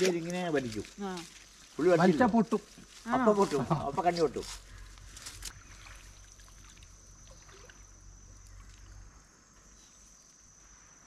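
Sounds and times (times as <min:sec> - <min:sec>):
faint stream trickling: 0:00.0 - 0:10.8.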